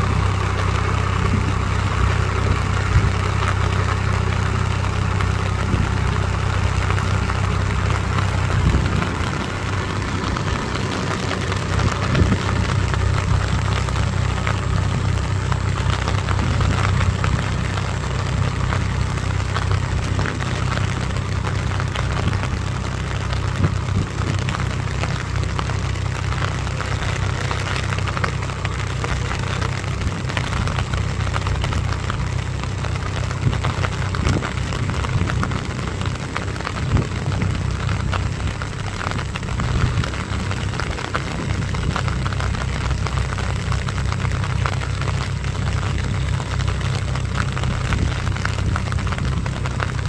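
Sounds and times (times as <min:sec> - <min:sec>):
rain falling on water: 0:00.0 - 0:50.0
tractor diesel engine running: 0:00.0 - 0:50.0.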